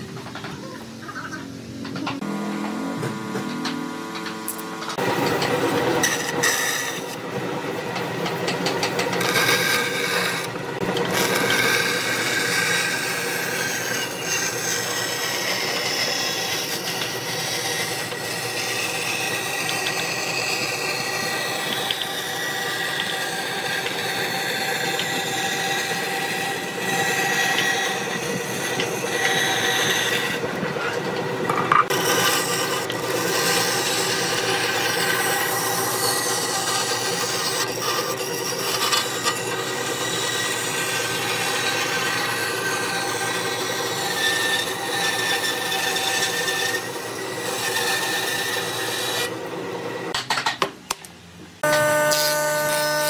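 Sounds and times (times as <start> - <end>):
saw motor hum: 0.0 - 50.1, 51.6 - 53.0
band saw blade cutting wood: 2.0 - 50.2, 51.6 - 53.0.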